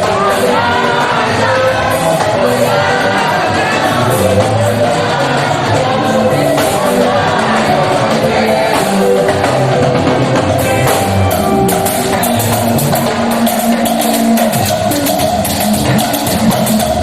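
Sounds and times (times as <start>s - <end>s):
choir singing: 0.0s - 17.0s
drums: 0.0s - 17.0s
guitar: 0.0s - 17.0s.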